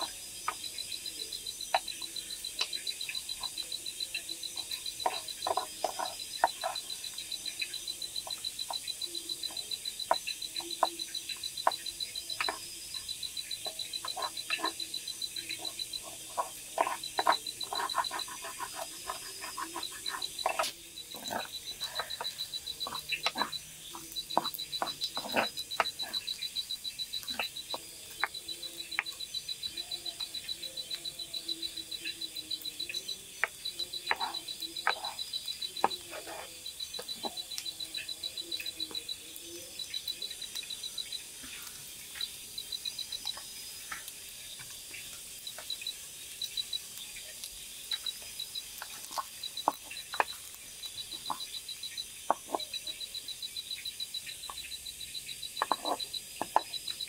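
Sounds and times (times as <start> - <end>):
night chorus trilling: 0.0 - 57.0.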